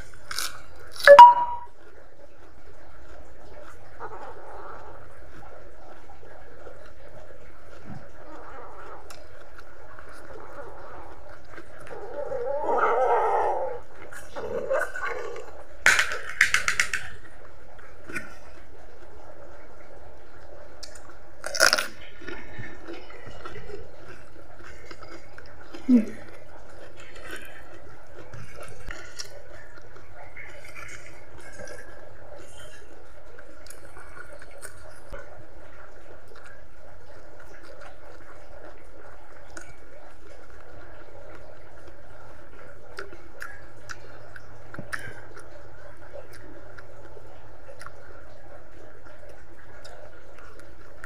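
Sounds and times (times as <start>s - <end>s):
chewing mouth sounds: 0.0s - 51.0s.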